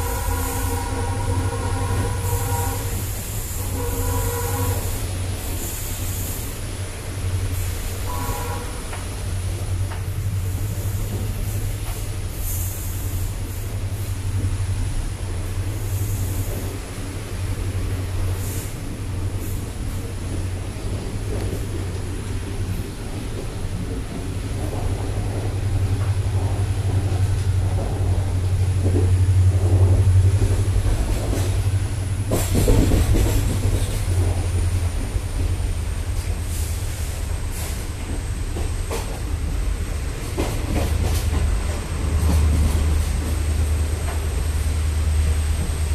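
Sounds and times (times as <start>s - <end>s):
train coach rumble and hiss: 0.0s - 45.9s.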